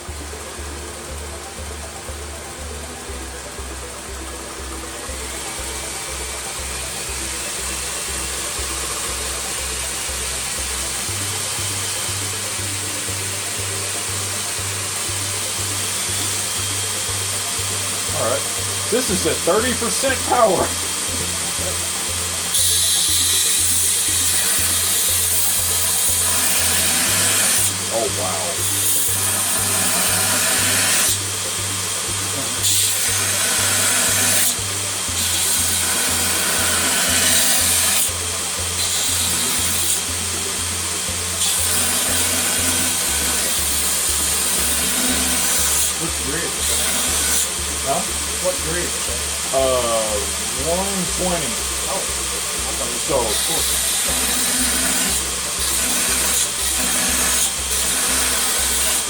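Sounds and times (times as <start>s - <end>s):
music with bass beat: 0.0s - 46.8s, 47.4s - 59.0s
belt grinder grinding metal: 0.0s - 59.0s.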